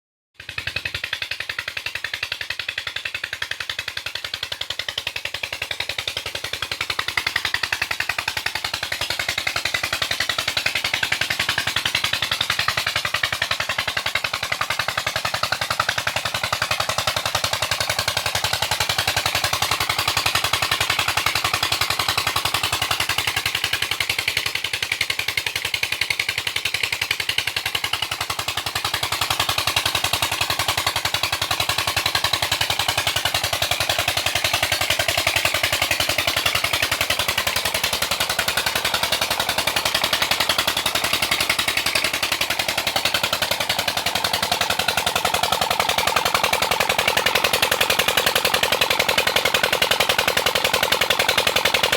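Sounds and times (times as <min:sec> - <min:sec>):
diesel engine running: 0:00.5 - 0:51.9.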